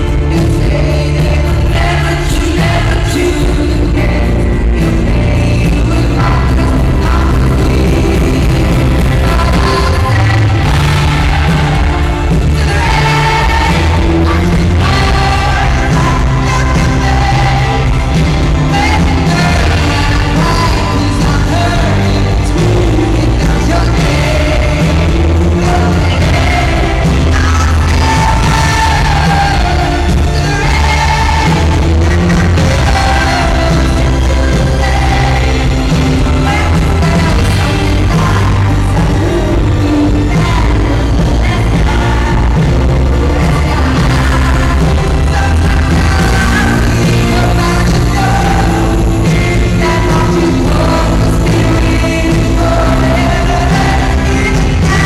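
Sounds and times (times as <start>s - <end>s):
band playing: 0.0s - 55.0s
woman singing: 0.0s - 55.0s.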